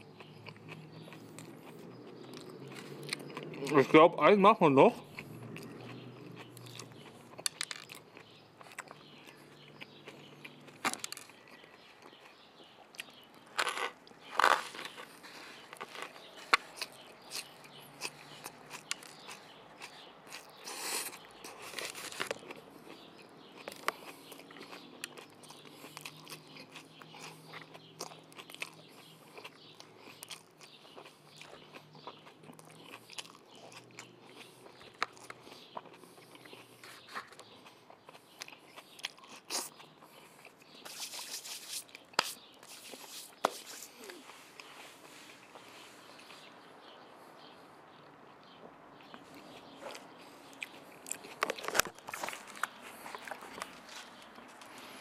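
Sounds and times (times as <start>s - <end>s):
person biting and chewing: 5.1s - 44.7s, 49.8s - 55.0s.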